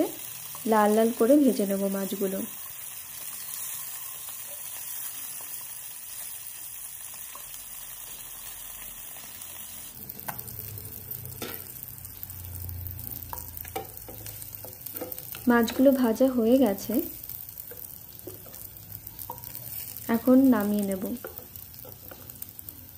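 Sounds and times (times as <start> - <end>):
fish sizzling in hot oil: 0.0 - 22.9.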